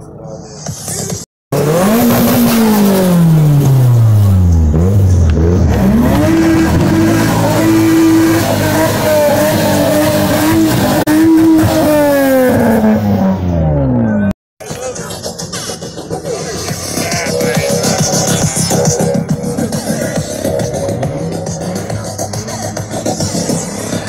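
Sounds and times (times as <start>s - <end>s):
car engine revving: 1.5s - 24.0s.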